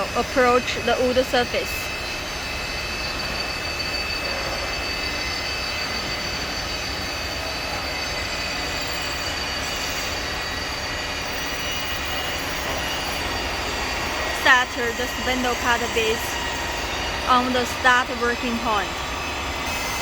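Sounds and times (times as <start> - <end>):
wood lathe humming and whining: 0.0 - 20.0.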